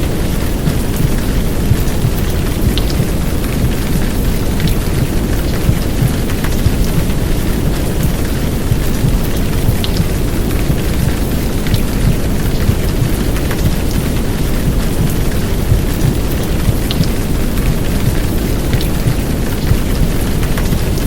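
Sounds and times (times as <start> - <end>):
heavy downpour rain: 0.0 - 21.0.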